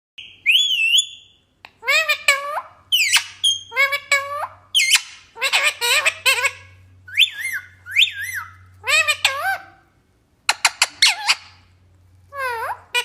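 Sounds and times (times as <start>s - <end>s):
parrot talking: 0.5s - 13.0s.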